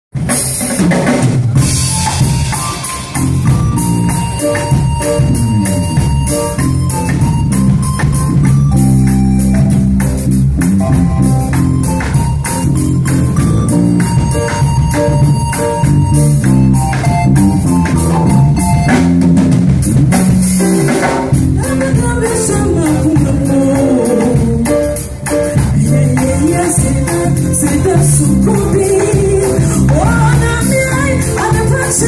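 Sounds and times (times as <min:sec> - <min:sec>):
live church band music: 0:00.2 - 0:32.0.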